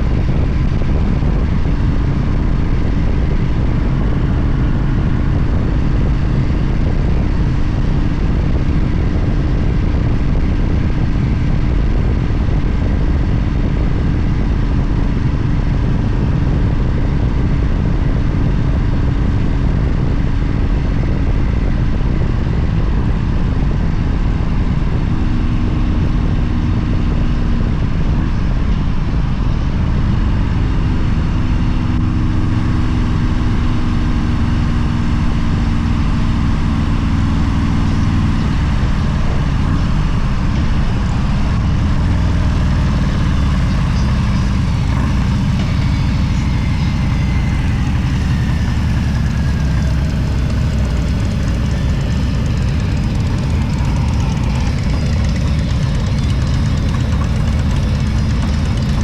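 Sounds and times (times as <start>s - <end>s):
wind rush: 0.0s - 58.8s
motorcycle engine cruising: 0.0s - 59.0s.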